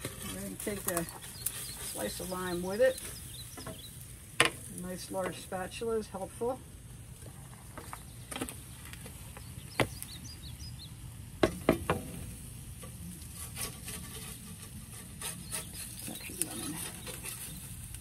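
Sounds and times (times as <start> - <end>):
faint sizzle: 0.0 - 18.0.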